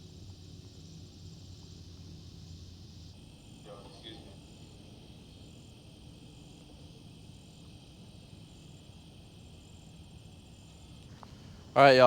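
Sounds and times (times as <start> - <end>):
crickets and insects chirping: 0.0 - 12.0.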